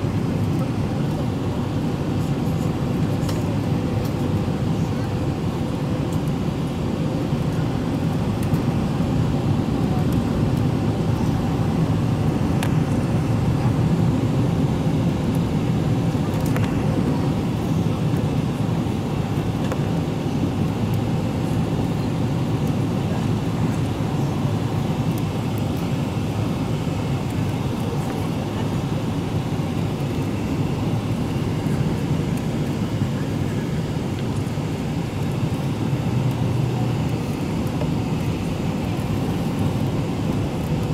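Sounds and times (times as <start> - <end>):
airplane cabin roar: 0.0 - 40.9.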